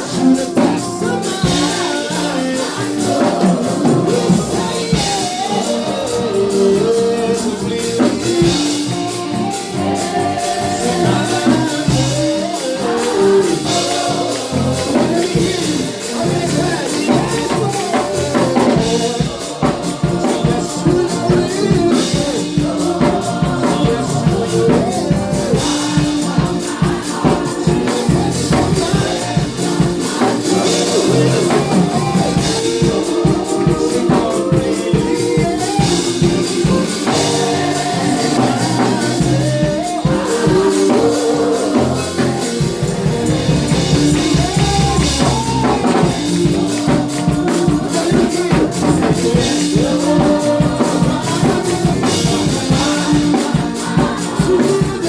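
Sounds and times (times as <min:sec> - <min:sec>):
gospel band playing: 0:00.0 - 0:55.0
people singing: 0:00.0 - 0:55.0
tambourine: 0:00.0 - 0:55.0.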